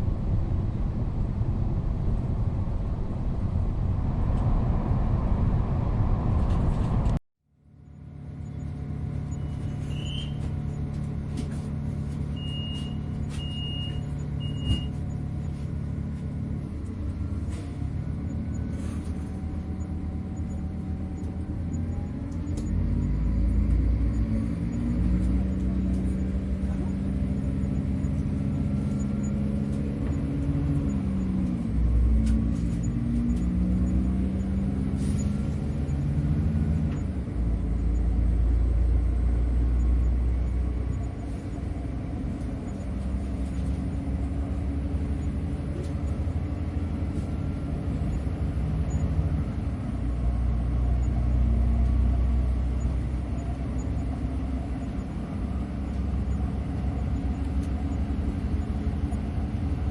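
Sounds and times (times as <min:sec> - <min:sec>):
train rumbling: 0:00.0 - 0:07.2, 0:07.9 - 0:59.9.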